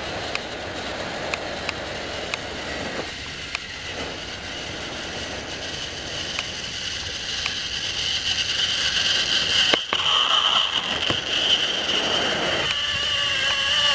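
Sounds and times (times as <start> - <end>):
toy train motor whine: 0.0 - 13.9
train wheels rattling on track: 0.0 - 13.9.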